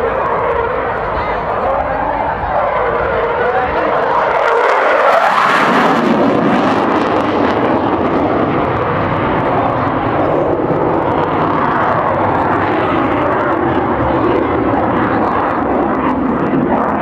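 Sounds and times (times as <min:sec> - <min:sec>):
jet plane passing: 0:00.0 - 0:17.0.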